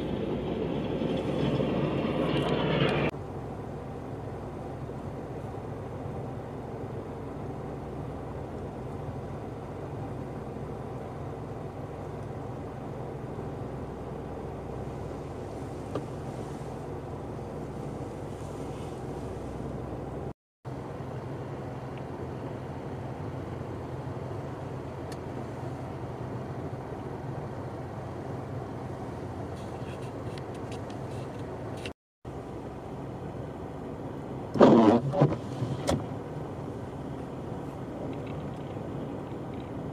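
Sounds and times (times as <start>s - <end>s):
motor vehicle engines droning: 0.0s - 39.9s.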